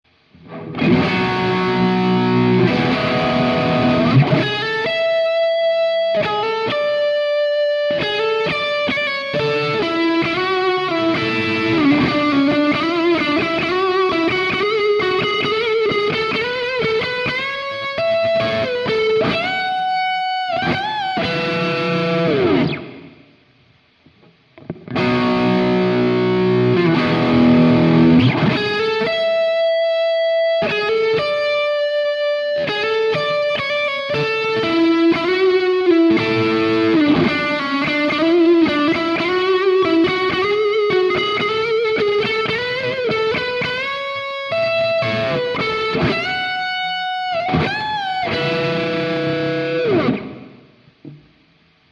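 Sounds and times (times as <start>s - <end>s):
electric guitar playing: 0.3s - 23.3s, 24.1s - 51.7s.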